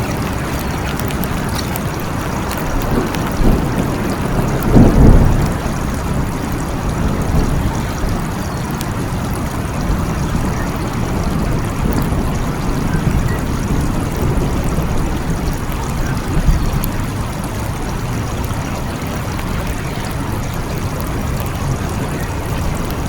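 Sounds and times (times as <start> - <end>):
low rumble of thunder: 0.0 - 23.0
steady rain falling: 0.0 - 23.0.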